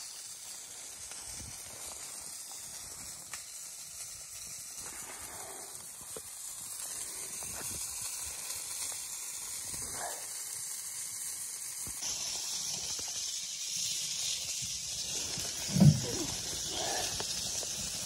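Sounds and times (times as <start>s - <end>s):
faint wood crackles: 0.0s - 18.0s
food sizzling on a grill: 0.0s - 18.0s.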